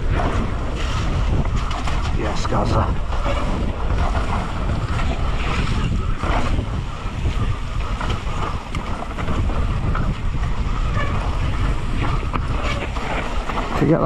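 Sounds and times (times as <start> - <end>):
bike knocking over rough ground: 0.0 - 14.0
bike tyres rumbling on dirt trail: 0.0 - 14.0
wind buffeting microphone: 0.0 - 14.0.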